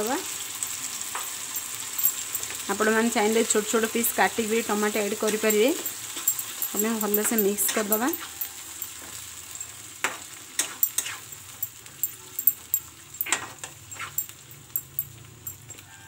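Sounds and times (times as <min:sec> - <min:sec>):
masala sizzling in hot oil: 0:00.0 - 0:16.0.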